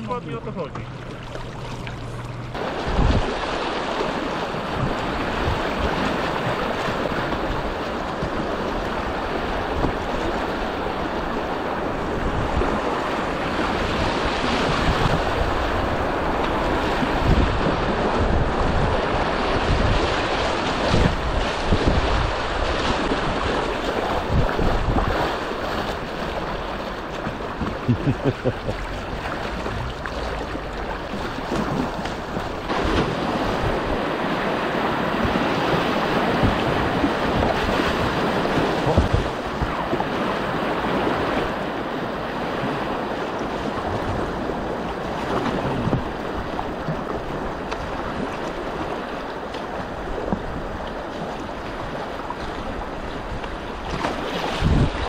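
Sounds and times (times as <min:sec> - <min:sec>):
whitewater rushing and splashing: 0:00.0 - 0:55.0
wind noise on microphone: 0:01.8 - 0:55.0.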